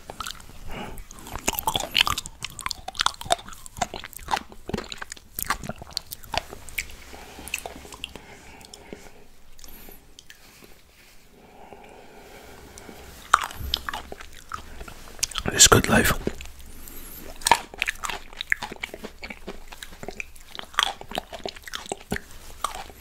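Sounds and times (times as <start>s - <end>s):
grape crunching while chewing: 0.0s - 23.0s.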